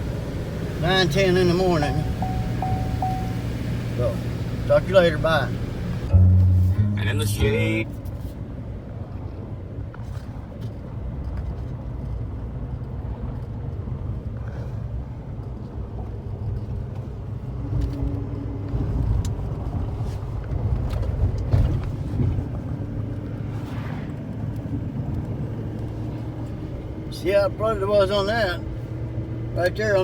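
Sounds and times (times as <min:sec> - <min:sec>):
truck engine and road drone: 0:00.0 - 0:30.0.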